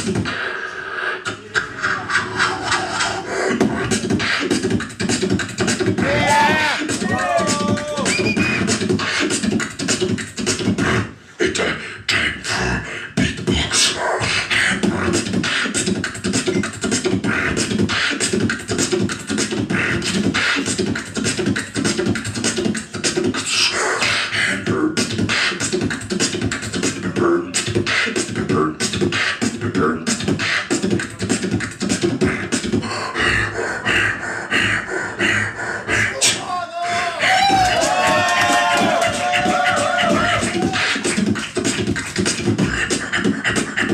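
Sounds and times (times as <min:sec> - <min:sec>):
beatboxing: 0:00.0 - 0:43.9.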